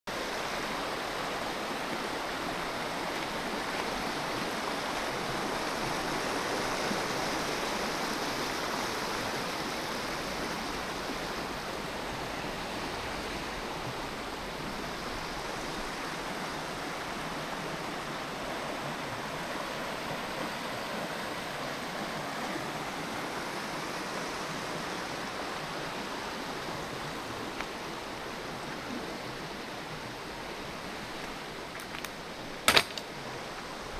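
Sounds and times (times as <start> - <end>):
running water rushing: 0.1 - 33.9.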